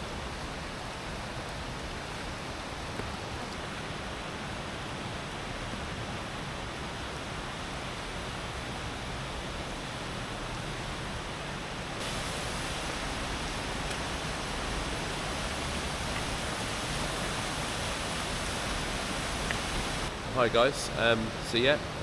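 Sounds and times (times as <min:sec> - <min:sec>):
underground waterfall rushing: 0:00.0 - 0:22.0.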